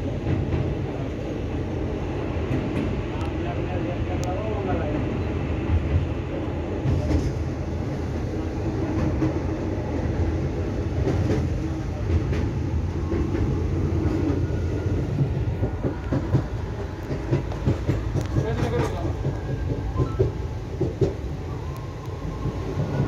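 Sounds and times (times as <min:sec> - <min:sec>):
low rumble of wheels on rail: 0:00.0 - 0:23.0.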